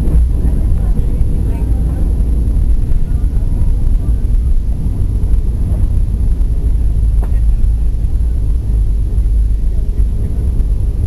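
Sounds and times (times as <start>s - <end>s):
jet engine roar: 0.0s - 11.0s
wheels running on runway: 0.0s - 11.0s.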